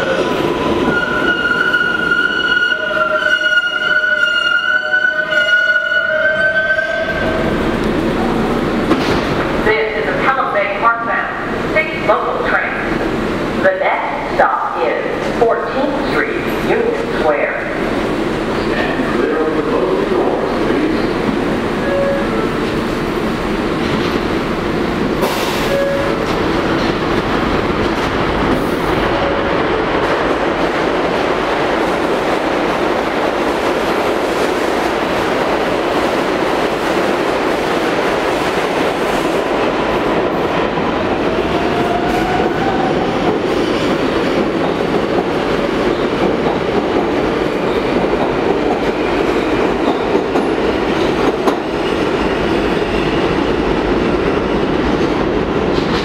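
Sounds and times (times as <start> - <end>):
subway train wheels rumbling on rails: 0.0 - 56.0.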